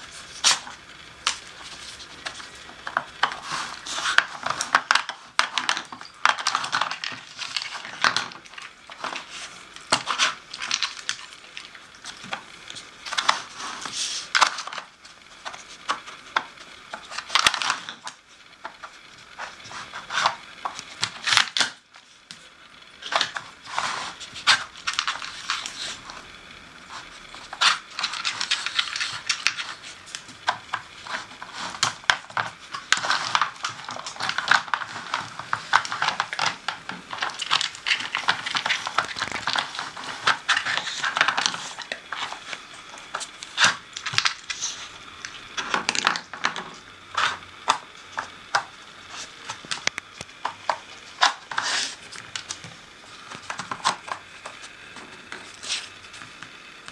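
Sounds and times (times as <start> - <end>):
plastic puzzle clattering: 0.2 - 22.4, 23.0 - 26.3, 26.9 - 56.9.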